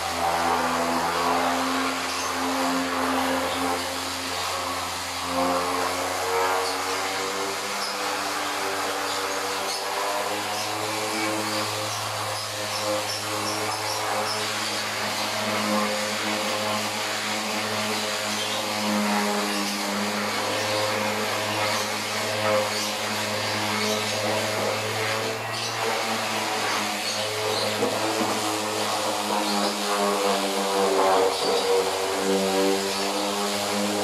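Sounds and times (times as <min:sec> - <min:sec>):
electric sander motor hum: 0:00.0 - 0:34.0
sandpaper hissing on wood: 0:00.0 - 0:34.0.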